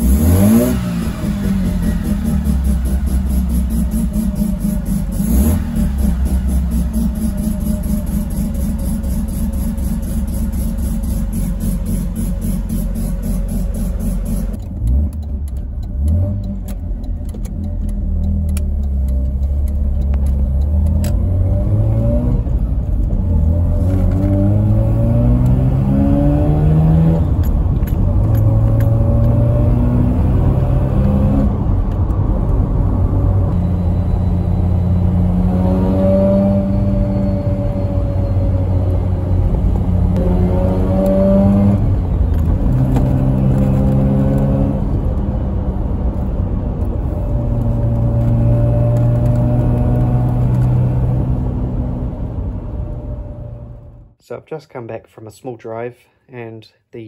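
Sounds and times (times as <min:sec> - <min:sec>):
rotary engine revving in car: 0:00.0 - 0:54.2.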